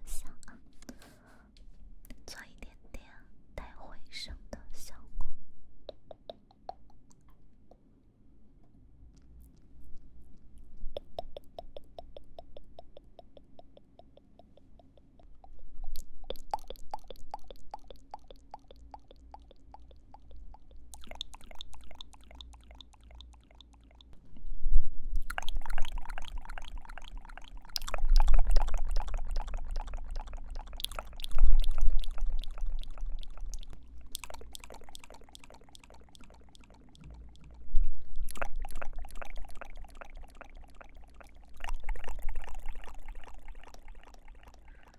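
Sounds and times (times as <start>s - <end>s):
wet tongue and lip clicks: 5.8s - 7.9s, 9.1s - 24.2s, 25.2s - 44.9s.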